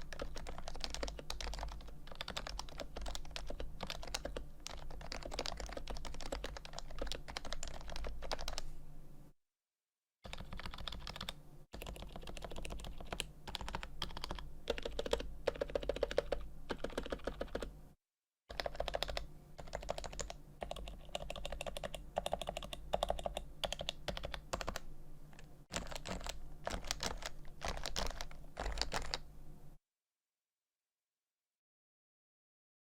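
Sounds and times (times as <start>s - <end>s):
rapid keyboard typing: 0.0s - 8.6s, 10.3s - 17.8s, 18.5s - 29.3s.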